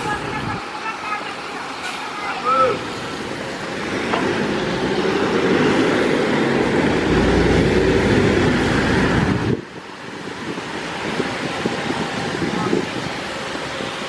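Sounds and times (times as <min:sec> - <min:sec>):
bus engine driving off: 0:00.0 - 0:14.0
traffic on wet road: 0:00.0 - 0:14.0.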